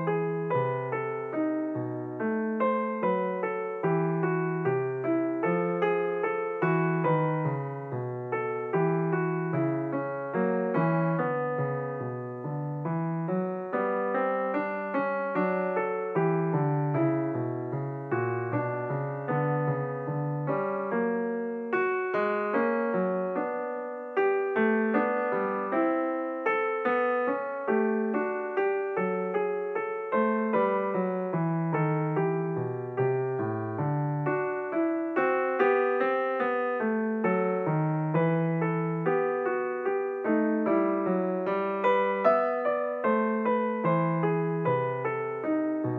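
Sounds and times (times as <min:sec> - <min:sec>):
piano music: 0:00.0 - 0:45.9.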